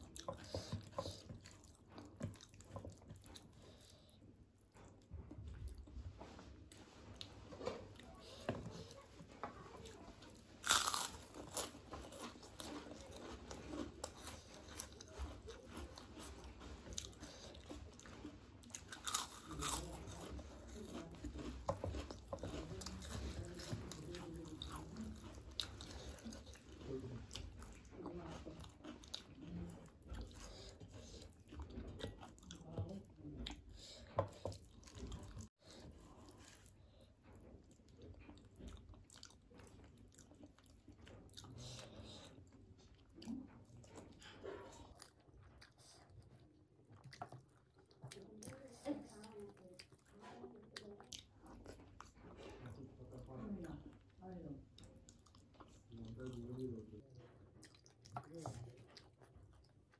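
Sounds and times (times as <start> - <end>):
person chewing: 0.0 - 6.0, 6.6 - 59.9.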